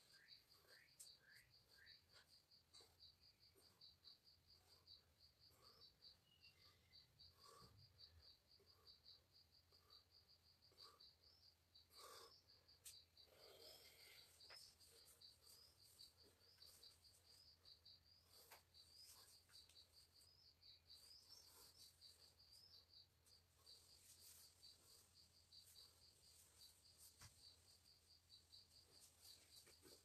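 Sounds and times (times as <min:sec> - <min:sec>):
insect chirping: 0:00.0 - 0:30.0.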